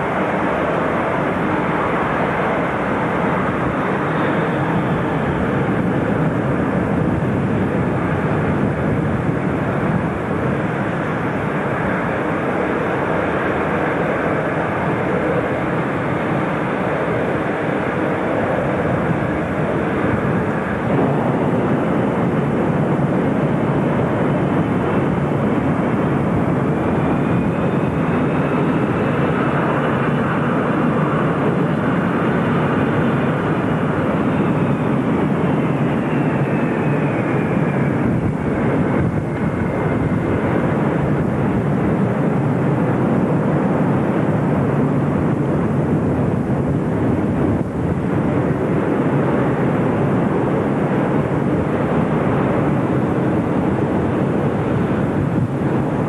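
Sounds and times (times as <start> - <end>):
high turbine whine: 0.0 - 56.0
jet engines rumbling: 0.0 - 56.0.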